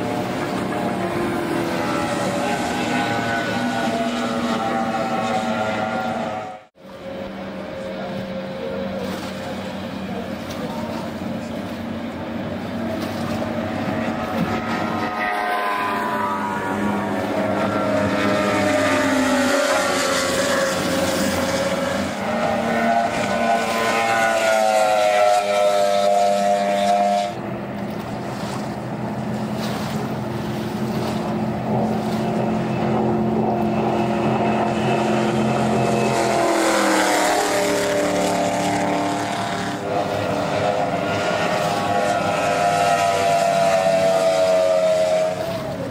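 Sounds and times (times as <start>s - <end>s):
racing boat engines at high revs: 0.0s - 45.9s.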